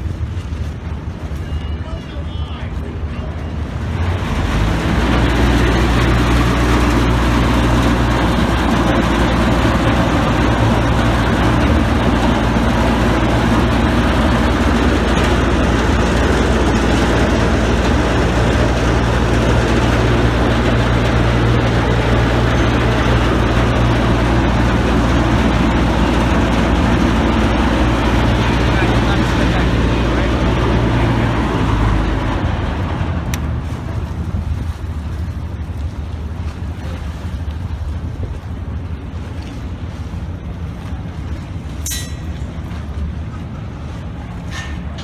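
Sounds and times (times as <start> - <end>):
boat diesel engines humming: 0.0 - 45.0.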